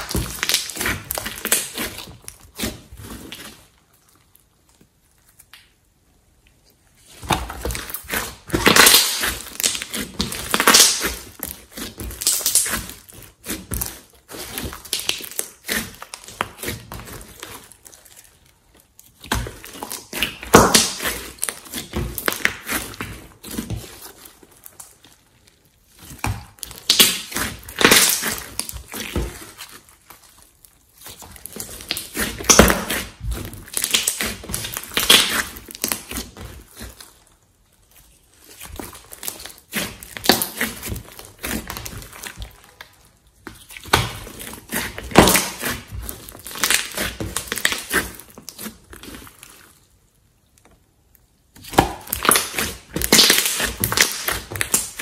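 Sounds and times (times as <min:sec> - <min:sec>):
slime squishing: 0:00.0 - 0:55.0.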